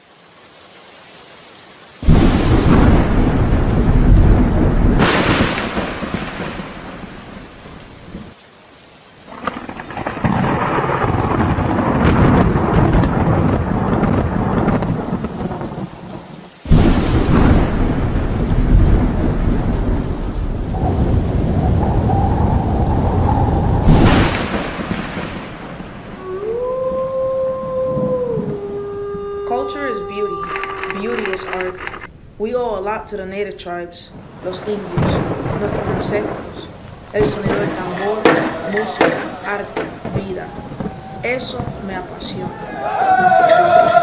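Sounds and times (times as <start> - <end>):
steady rain: 0.0 - 44.0
loud thunderclaps: 2.0 - 8.4, 9.3 - 32.3, 34.2 - 44.0
low thunder rumble: 2.0 - 8.4, 9.3 - 33.1, 34.1 - 44.0.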